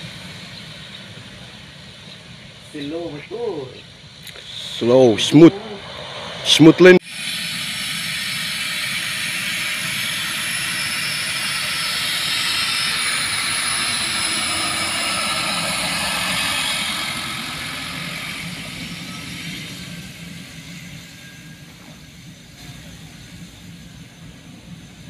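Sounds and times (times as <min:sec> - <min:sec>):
turboprop engines whining: 0:00.0 - 0:25.0.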